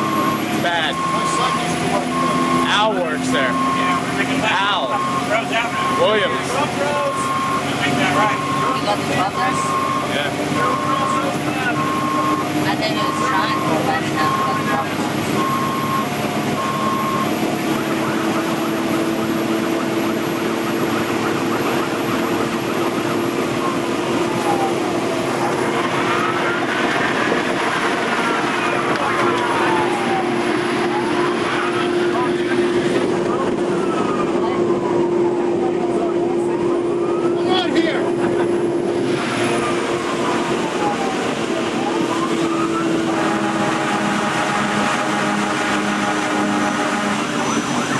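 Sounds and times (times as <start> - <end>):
engine and road noise drone: 0.0 - 47.9
siren wailing: 0.0 - 47.9.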